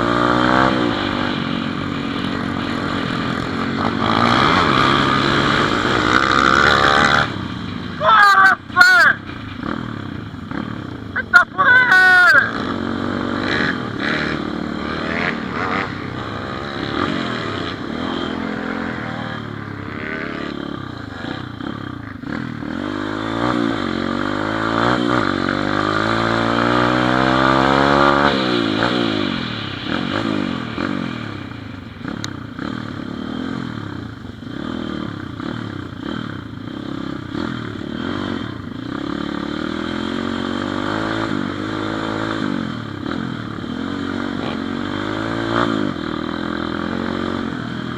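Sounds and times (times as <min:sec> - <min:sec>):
motorbike engine revving: 0:00.0 - 0:47.9.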